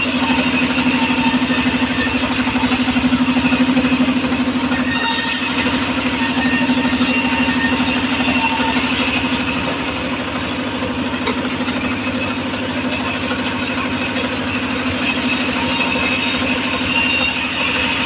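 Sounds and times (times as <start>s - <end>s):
circular saw engine running: 0.0s - 18.0s.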